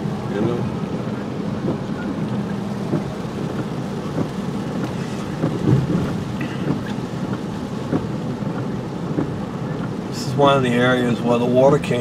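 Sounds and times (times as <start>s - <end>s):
rain pattering on car: 0.0s - 12.0s
road and engine rumble: 0.0s - 12.0s.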